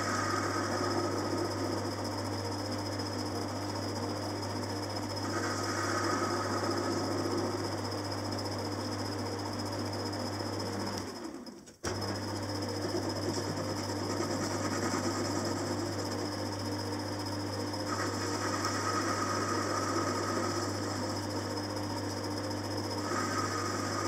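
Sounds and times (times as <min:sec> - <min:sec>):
lathe motor hum: 0:00.0 - 0:24.0.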